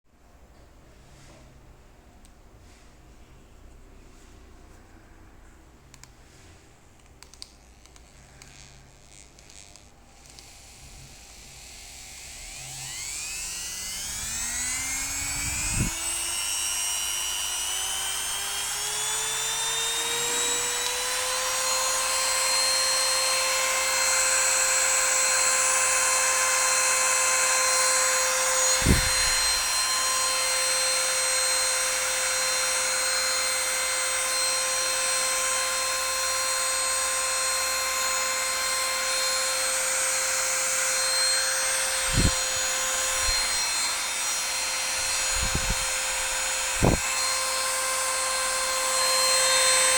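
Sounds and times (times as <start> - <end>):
mini grinder motor whine: 7.6 - 49.9.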